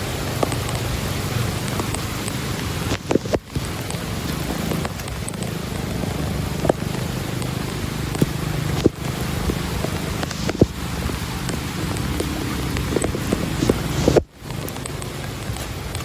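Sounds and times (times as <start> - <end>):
rain and floodwater rushing: 0.0 - 16.0
wind on microphone: 0.0 - 16.0
sharp knocks and clicks: 1.7 - 5.5, 6.6 - 16.0.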